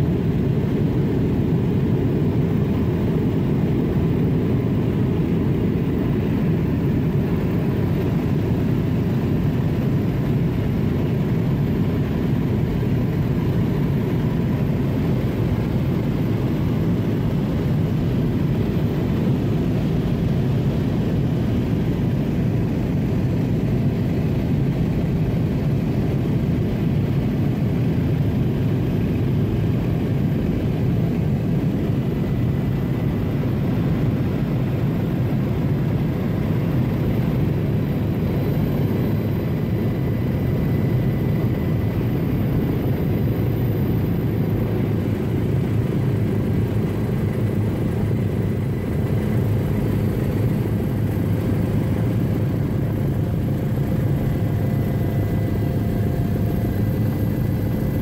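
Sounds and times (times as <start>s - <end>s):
helicopter rotor and engine rumble: 0.0s - 58.0s.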